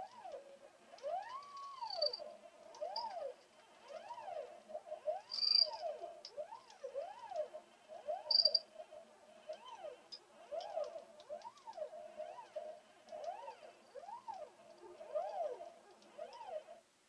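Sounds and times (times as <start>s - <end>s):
stepper motors whining: 0.0s - 16.8s.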